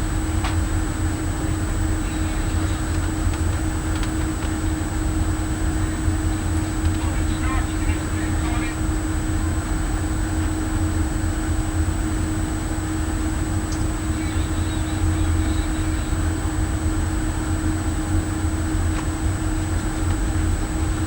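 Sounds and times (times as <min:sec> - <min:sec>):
mechanical drone: 0:00.0 - 0:21.0.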